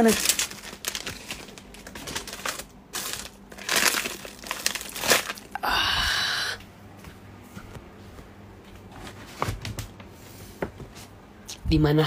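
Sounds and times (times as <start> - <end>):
crinkling and rustling: 0.0 - 5.6, 7.0 - 11.2.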